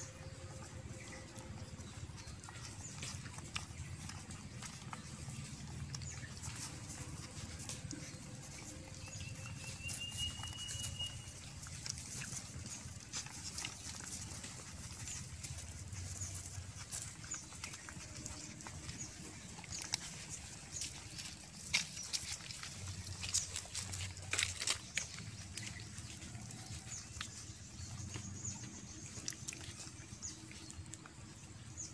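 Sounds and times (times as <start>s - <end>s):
puppies suckling wet smacking: 0.0s - 31.9s.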